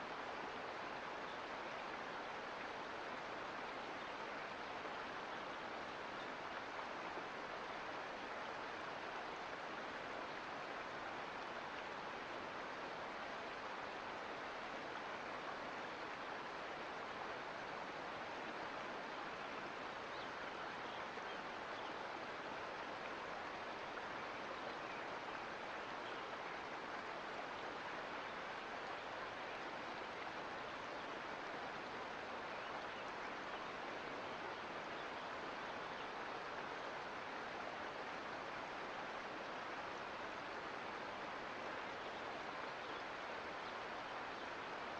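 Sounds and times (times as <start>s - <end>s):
creek water rushing: 0.0s - 44.9s.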